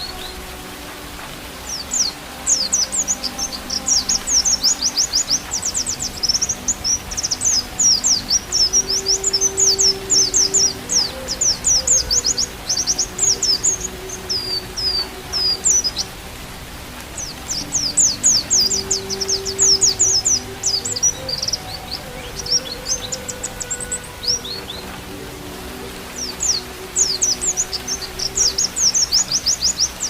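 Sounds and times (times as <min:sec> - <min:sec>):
bamboo flute melody: 0:00.0 - 0:30.0
bird chirping song: 0:00.0 - 0:30.0.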